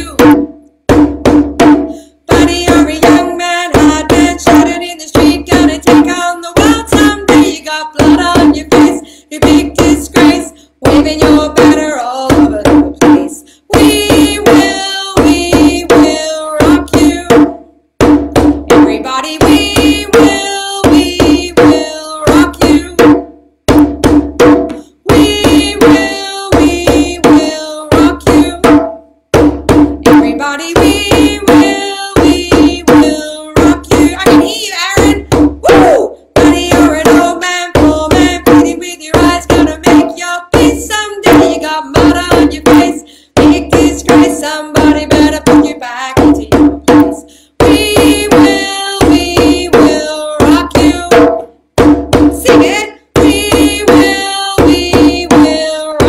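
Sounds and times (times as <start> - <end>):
person singing: 0.0 - 0.2, 2.2 - 17.4, 18.8 - 23.0, 24.8 - 28.7, 30.0 - 51.3, 52.4 - 56.0
drum beaten: 0.0 - 56.0.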